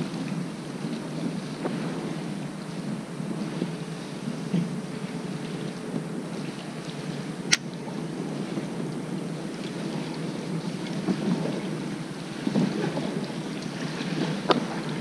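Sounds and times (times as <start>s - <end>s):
water sloshing against hull: 0.0s - 15.0s
wind noise on microphone: 0.0s - 15.0s.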